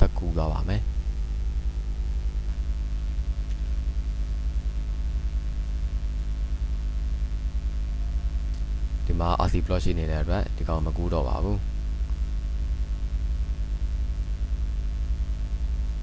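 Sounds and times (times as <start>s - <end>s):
low electrical hum with hiss: 0.0s - 16.0s.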